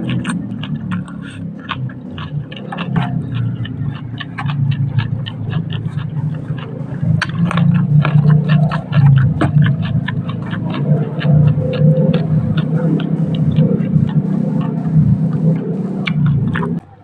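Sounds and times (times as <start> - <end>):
wet mouth clicks and smacks: 0.0 - 16.8
chewing food close-up: 0.0 - 17.0
low steady hum: 0.0 - 17.0.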